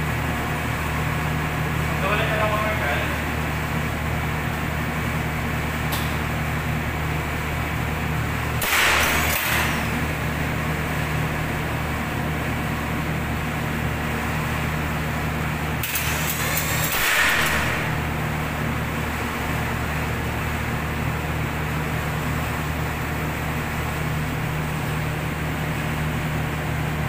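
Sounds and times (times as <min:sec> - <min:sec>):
generator droning: 0:00.0 - 0:27.0.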